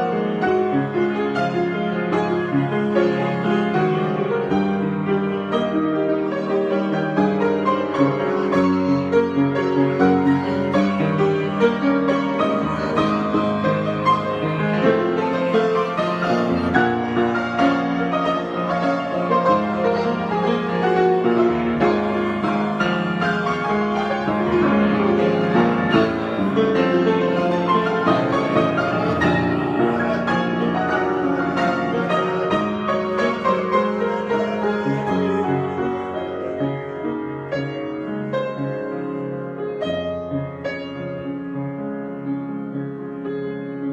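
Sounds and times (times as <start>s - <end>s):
piano improvisation: 0.0s - 43.9s.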